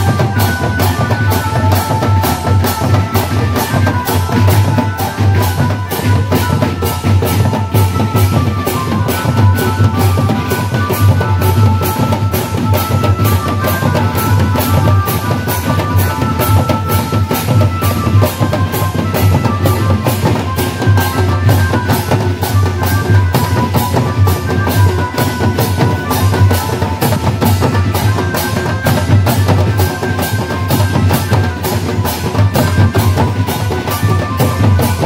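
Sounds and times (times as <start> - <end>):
barrel drum beat: 0.0 - 35.0
hand cymbals: 0.0 - 35.0
kettle drum beat: 0.0 - 35.0.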